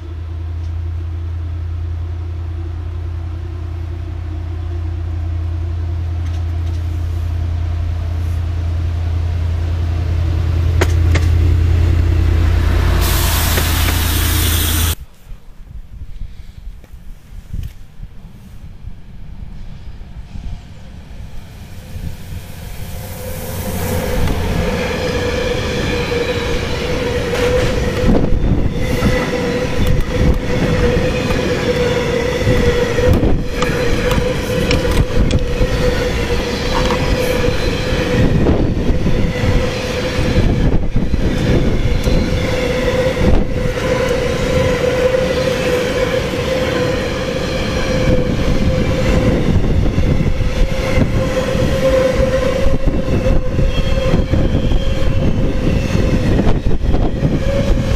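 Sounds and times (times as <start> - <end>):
train wheels rumbling: 0.0 - 15.1, 17.2 - 57.9
train high whine: 0.0 - 15.6, 16.2 - 57.9.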